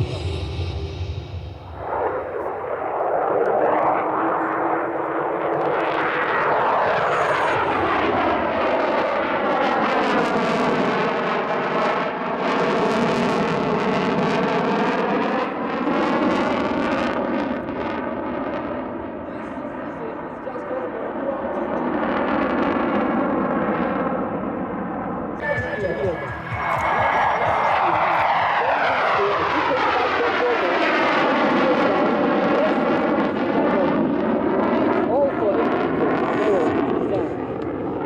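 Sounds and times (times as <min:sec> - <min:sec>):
fighter jet flying past: 0:00.0 - 0:20.3, 0:27.0 - 0:38.0.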